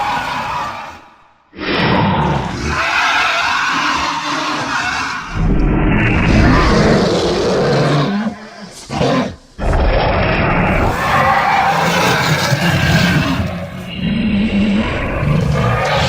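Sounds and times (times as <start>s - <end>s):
giant lizard creature growling: 1.6s - 16.0s.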